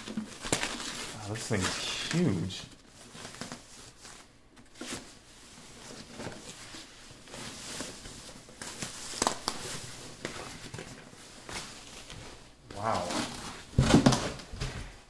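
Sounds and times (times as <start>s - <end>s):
plastic wrapping rustling: 0.0s - 15.0s.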